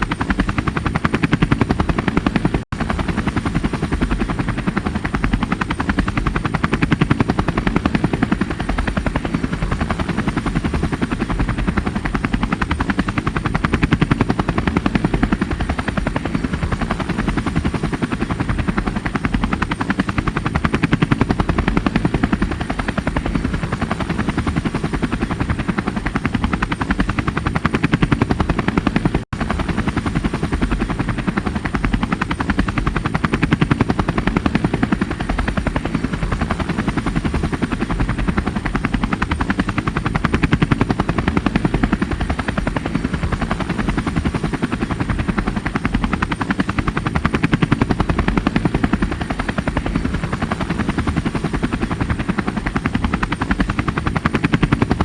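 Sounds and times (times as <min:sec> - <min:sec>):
helicopter rotor chopping: 0:00.0 - 0:55.0.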